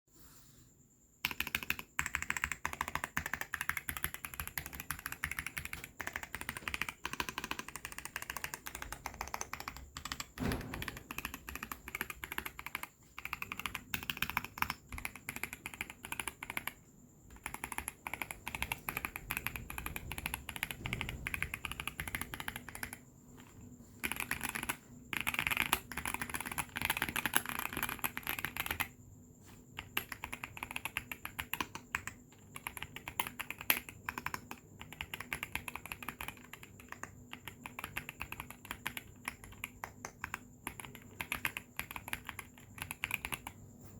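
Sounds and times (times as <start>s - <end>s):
mechanical keyboard typing: 1.2s - 29.0s, 29.7s - 43.6s.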